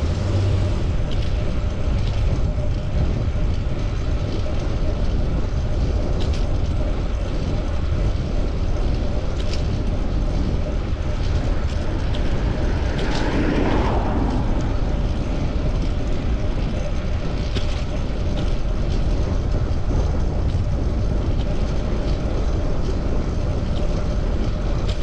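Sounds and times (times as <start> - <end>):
bicycle tyre and road noise: 0.0 - 25.0
city traffic: 0.0 - 25.0
wind rushing over microphone: 0.0 - 25.0.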